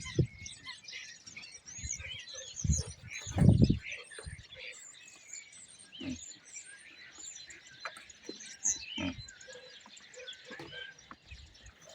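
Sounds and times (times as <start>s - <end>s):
starlings chattering: 0.0s - 11.9s.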